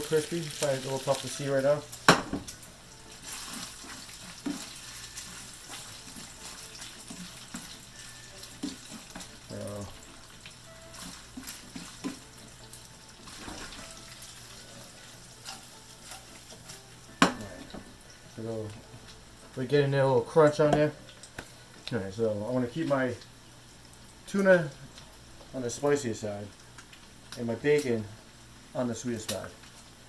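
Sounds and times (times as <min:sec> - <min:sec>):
food sizzling in pans: 0:00.0 - 0:30.0.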